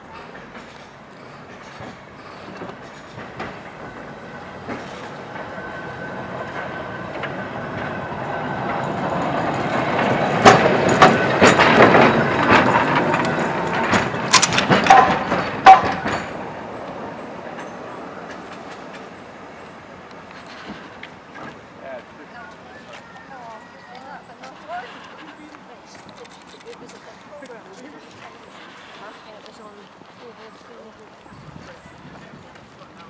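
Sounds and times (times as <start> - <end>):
tram rumbling past: 0.0 - 33.0
tram wheels clacking on rails: 0.0 - 33.0.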